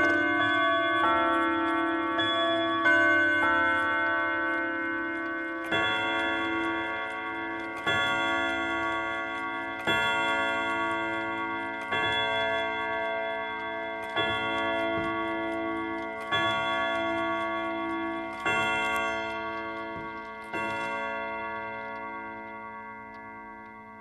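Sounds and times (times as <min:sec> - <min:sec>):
slow chime melody: 0:00.0 - 0:24.0.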